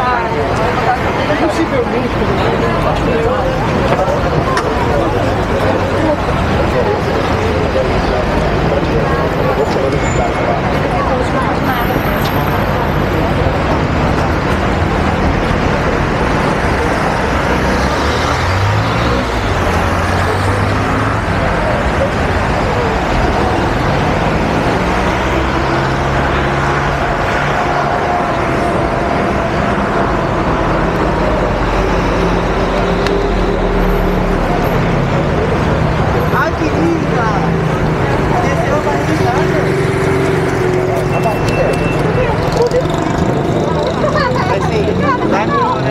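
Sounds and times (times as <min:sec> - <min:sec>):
car engines passing: 0:00.0 - 0:45.9
road noise: 0:00.0 - 0:45.9.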